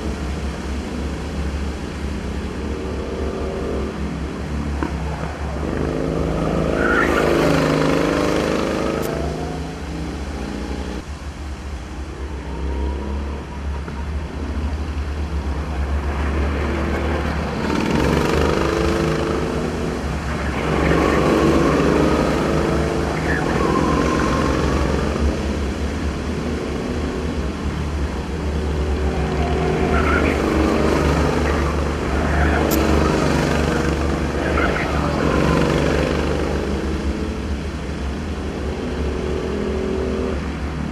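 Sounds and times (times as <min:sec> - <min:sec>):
go-kart engines passing: 0:00.0 - 0:40.9.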